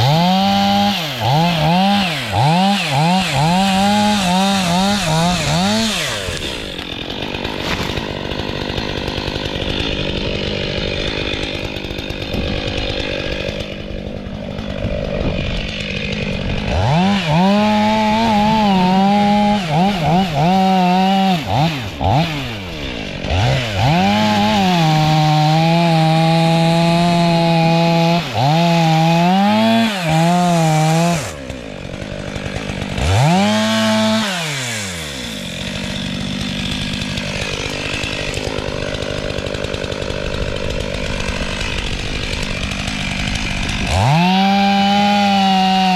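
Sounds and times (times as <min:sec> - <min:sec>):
chainsaw cutting wood: 0:00.0 - 0:45.9
chainsaw engine revving: 0:00.0 - 0:45.9.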